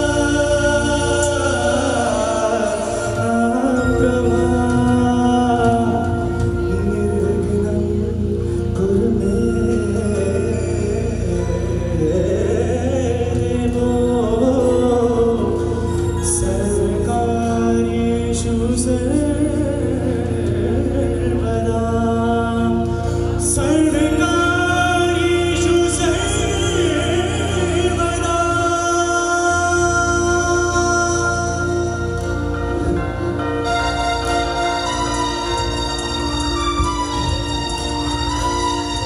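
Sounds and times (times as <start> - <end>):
man singing into microphone: 0.0 - 33.8
musical accompaniment: 0.0 - 39.0.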